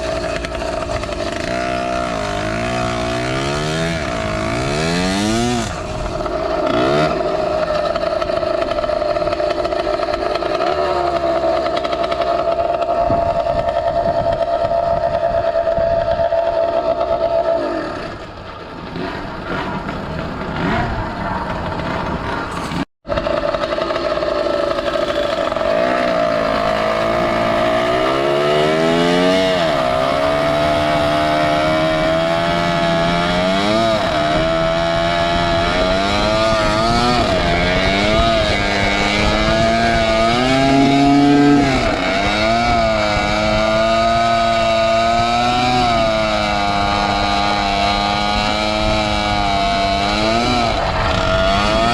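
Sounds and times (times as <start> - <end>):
two-stroke bicycle engine revving: 0.0 - 51.9.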